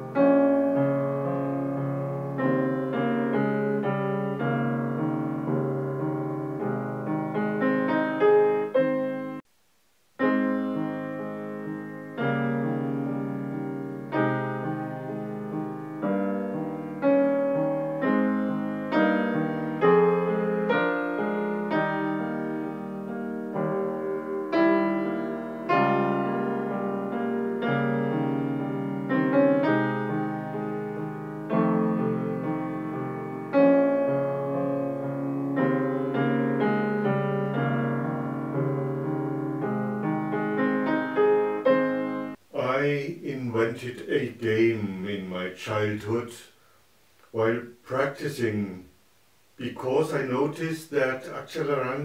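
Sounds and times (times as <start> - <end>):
grand piano playing chords: 0.0 - 9.5, 10.2 - 42.6.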